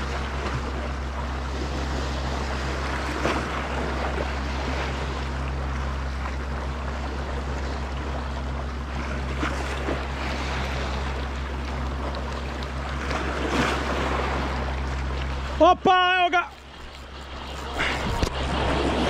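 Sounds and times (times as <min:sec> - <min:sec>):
sea washing against shore: 0:00.0 - 0:19.0
steady low hum: 0:00.0 - 0:19.0.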